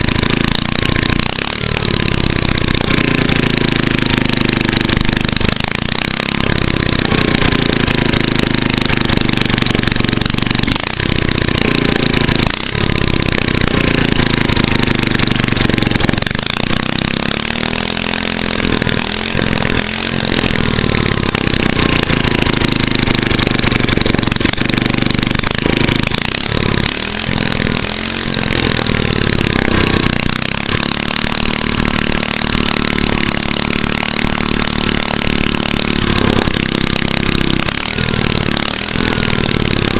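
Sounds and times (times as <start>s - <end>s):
engine revving up and down: 0.0s - 39.9s.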